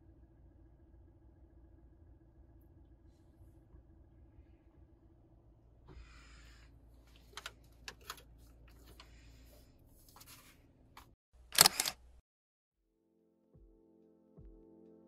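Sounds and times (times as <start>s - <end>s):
faint low hum: 0.0s - 12.2s.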